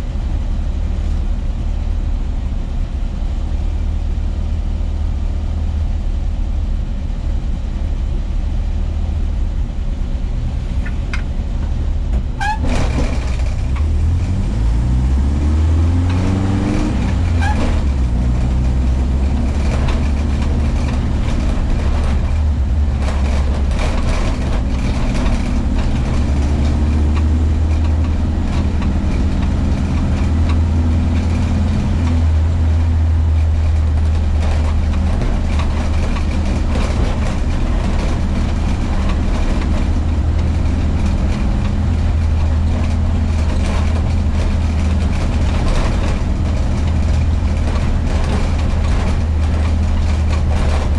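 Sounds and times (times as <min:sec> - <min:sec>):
van engine driving: 0:00.0 - 0:50.9.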